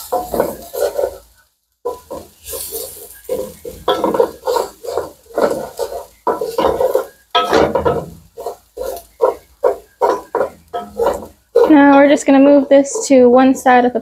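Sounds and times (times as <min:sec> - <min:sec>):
onions frying in grease: 0:00.0 - 0:14.0
wooden spoon scraping pot: 0:00.0 - 0:14.0.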